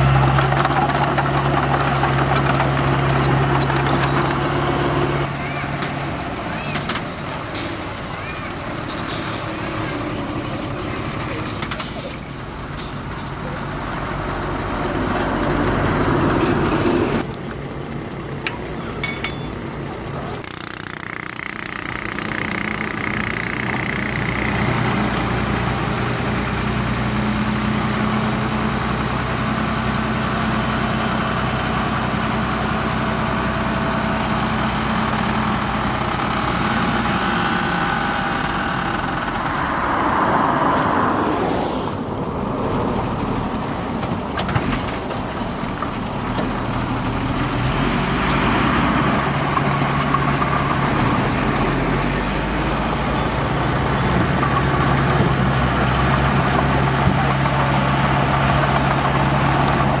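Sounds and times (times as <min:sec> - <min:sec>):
heavy diesel engine running: 0:00.0 - 1:00.0.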